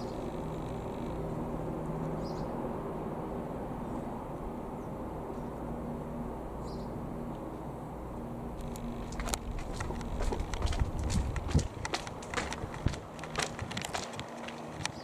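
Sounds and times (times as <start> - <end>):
distant engine rumble: 0.0 - 14.8.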